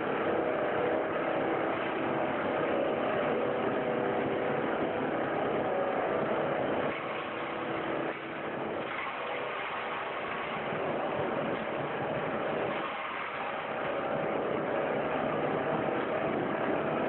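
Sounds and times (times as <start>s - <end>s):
motor hum: 0.0s - 17.0s
recycling machinery din: 0.0s - 17.0s.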